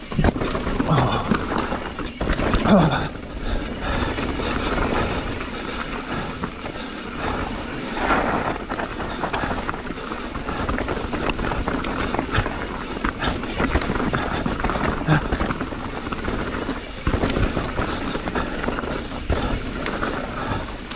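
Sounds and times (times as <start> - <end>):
bike rattles and knocks: 0.0 - 20.9
tyres rolling over loose rock: 0.0 - 20.9.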